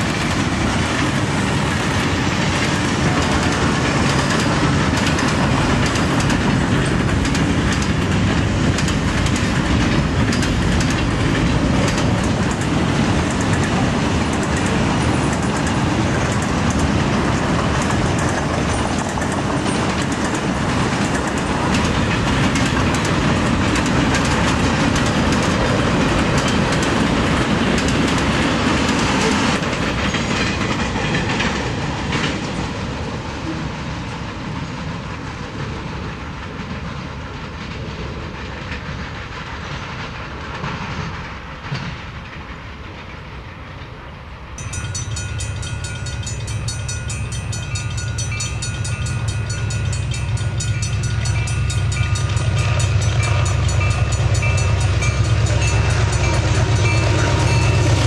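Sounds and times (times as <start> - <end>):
diesel locomotive growl: 0.0 - 58.0
freight train wheels clacking: 0.0 - 58.0.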